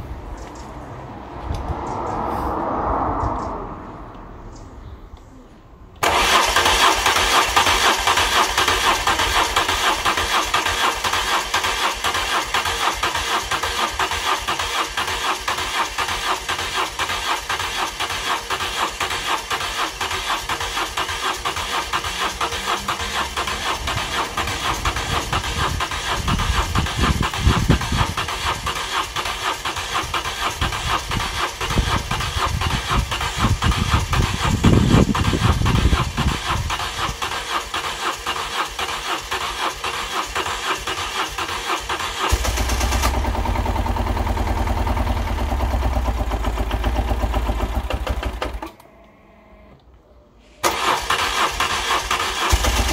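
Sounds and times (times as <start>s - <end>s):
motorcycle engine starting and running: 6.0s - 48.9s, 50.6s - 52.9s.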